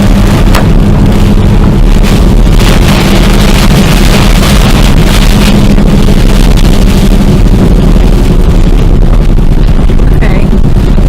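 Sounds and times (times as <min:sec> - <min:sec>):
vehicle rumbling: 0:00.0 - 0:11.0
wind buffeting microphone: 0:00.0 - 0:11.0.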